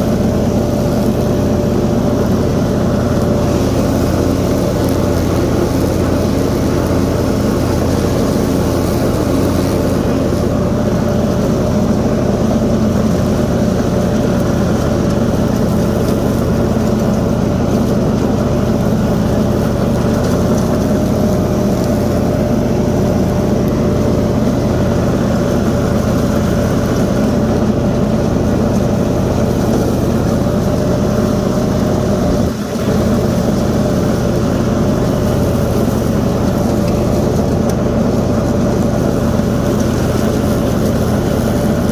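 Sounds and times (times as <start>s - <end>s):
lawn mower cutting grass: 0.0s - 41.9s.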